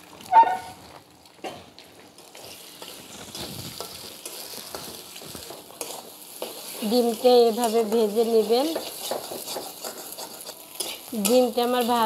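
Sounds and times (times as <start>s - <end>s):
egg sizzling in oil: 0.0s - 12.0s
metal spatula scraping a wok: 0.3s - 0.8s, 2.2s - 12.0s.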